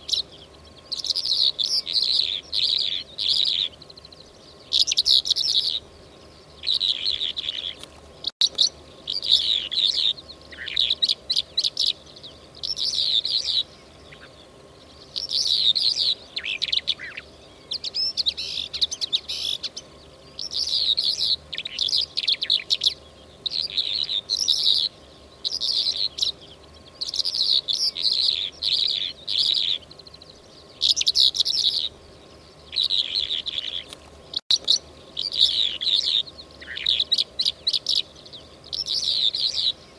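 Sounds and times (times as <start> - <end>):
faint steady hum: 0.0 - 39.9
lark chirping and trilling: 0.0 - 39.9.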